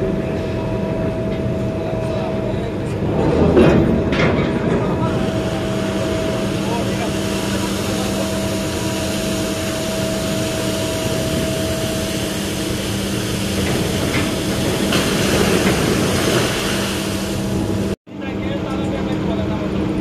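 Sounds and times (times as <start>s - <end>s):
material handler engine and hydraulics: 0.0s - 20.0s.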